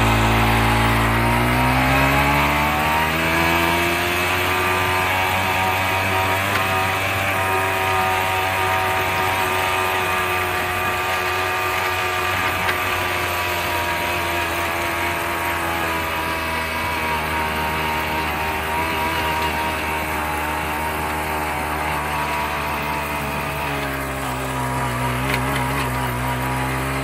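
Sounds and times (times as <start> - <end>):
walking tractor engine running: 0.0 - 27.0.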